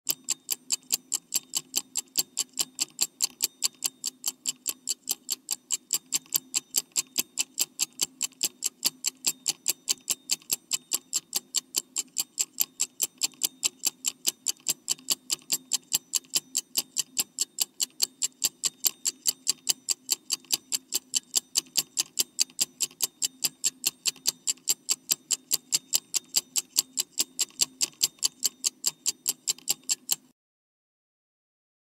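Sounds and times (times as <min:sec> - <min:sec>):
clock ticking fast: 0:00.1 - 0:30.3.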